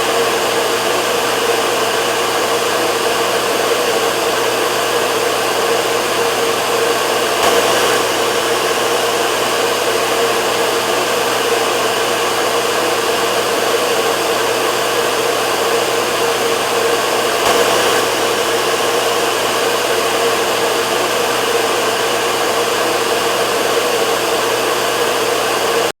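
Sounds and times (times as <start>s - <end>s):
hair dryer running: 0.0s - 25.9s.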